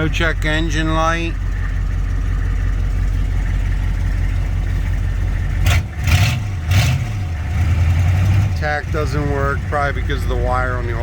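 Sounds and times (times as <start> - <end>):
diesel engine idling and revving: 0.0 - 11.0.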